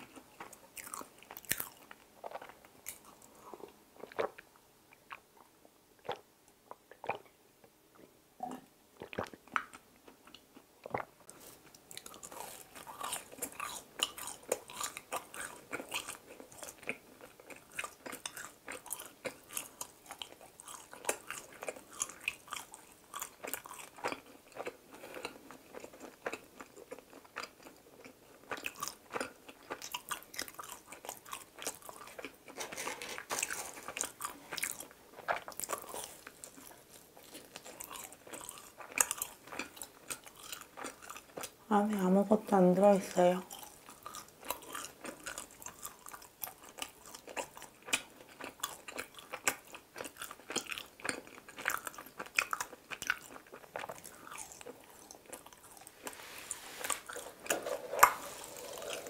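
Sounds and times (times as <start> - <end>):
chewing food: 0.0 - 42.2, 43.2 - 59.0.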